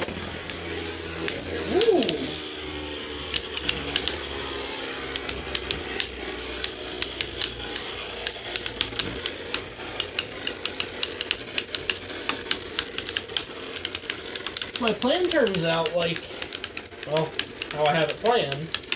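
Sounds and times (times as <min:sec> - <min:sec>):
sharp clacks of spinning tops colliding: 0:00.0 - 0:18.9
spinning tops whirring: 0:00.0 - 0:18.9.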